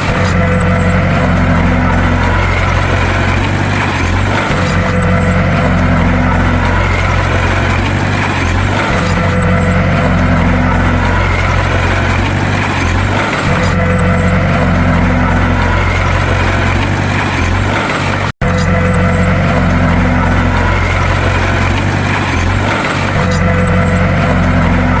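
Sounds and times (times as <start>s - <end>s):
bulldozer diesel engine drone: 0.0s - 25.0s.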